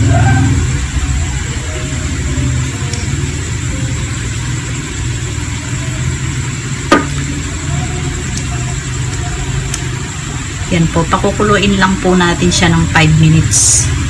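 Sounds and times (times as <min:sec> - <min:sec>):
low motor-like hum: 0:00.0 - 0:14.0.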